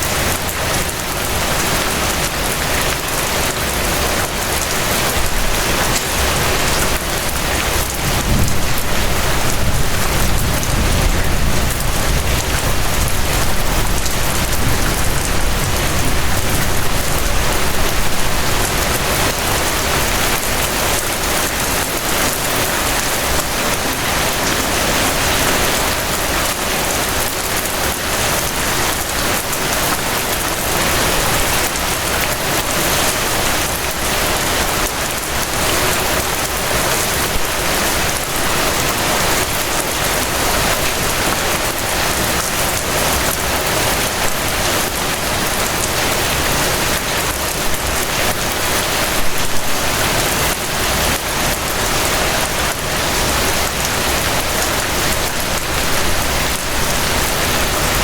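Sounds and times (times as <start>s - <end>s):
gentle rain patter: 0.0s - 58.0s.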